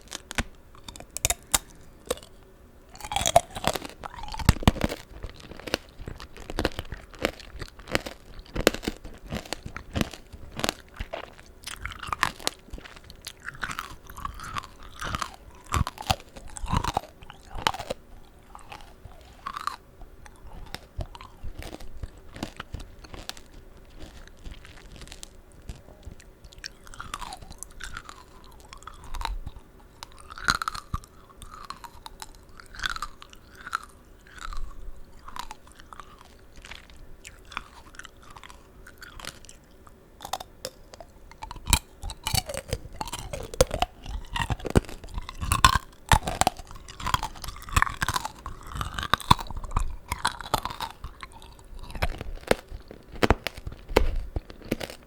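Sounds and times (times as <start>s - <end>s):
candy coating crunching: 0.0s - 55.0s
wet juicy chewing: 0.0s - 55.0s.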